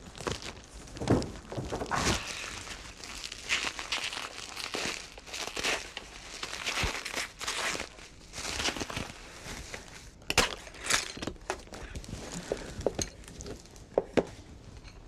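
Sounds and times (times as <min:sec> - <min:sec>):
packing material rustling and crunching: 0:00.0 - 0:15.0.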